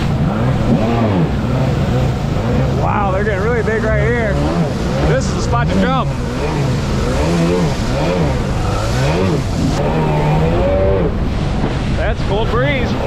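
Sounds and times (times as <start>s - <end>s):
jet ski engine revving: 0.0s - 13.0s
water and wind noise: 0.0s - 13.0s.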